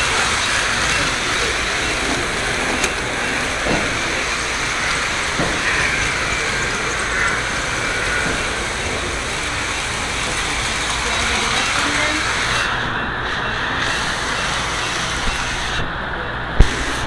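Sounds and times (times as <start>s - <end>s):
model train rumbling and rattling: 0.0s - 17.0s.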